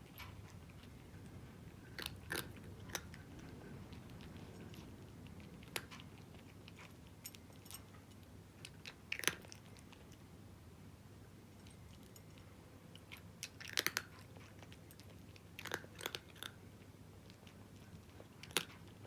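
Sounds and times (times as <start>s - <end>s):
cat crunching dry kibble: 0.0s - 10.2s, 11.7s - 19.0s.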